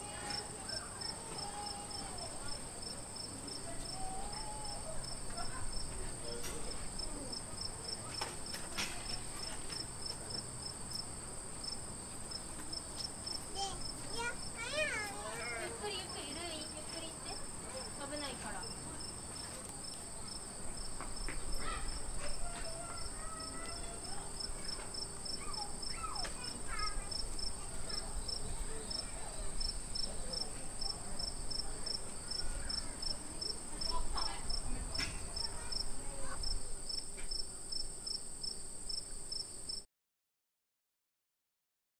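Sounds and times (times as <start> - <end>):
faint distant voices: 0.0 - 38.2
insects buzzing and chirping: 0.0 - 39.8.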